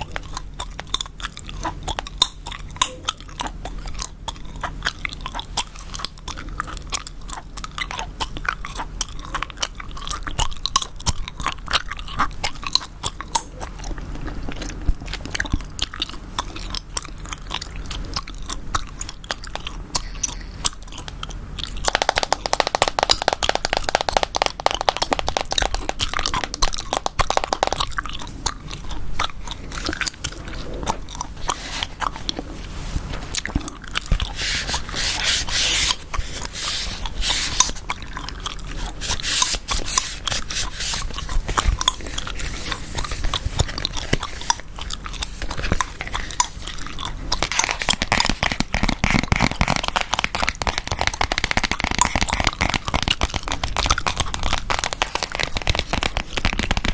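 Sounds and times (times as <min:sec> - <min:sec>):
gum chewing: 0:00.0 - 0:56.9.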